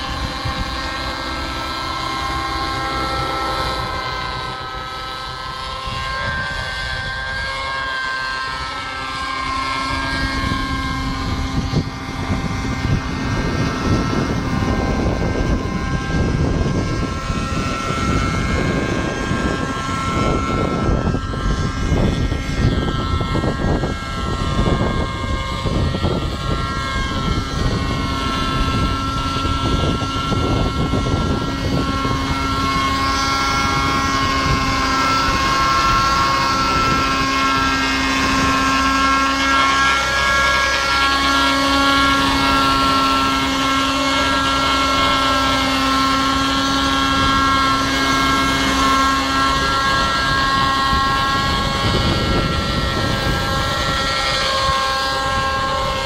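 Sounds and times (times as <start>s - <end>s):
model helicopter engine whine: 0.0s - 56.0s
wind buffeting microphone: 0.0s - 56.0s.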